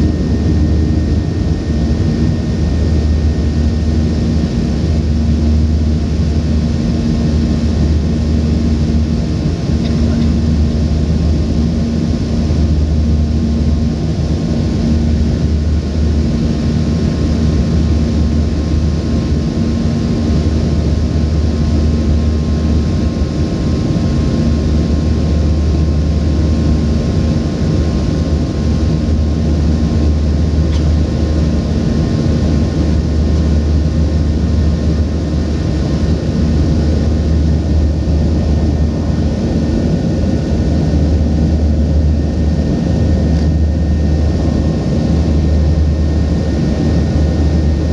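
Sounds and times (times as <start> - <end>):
airplane cabin drone: 0.0 - 47.9.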